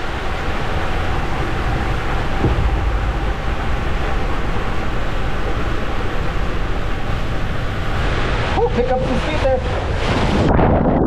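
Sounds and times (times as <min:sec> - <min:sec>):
water rushing through slide tube: 0:00.0 - 0:11.0.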